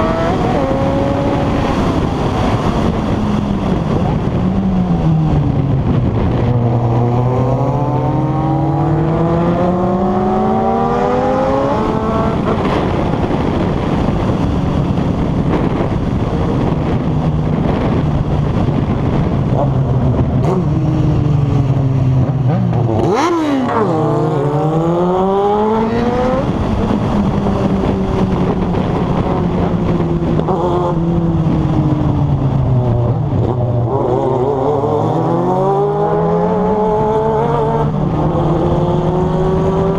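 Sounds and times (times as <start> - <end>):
motorcycle engines accelerating: 0.0 - 39.9
wind rush: 0.0 - 39.9.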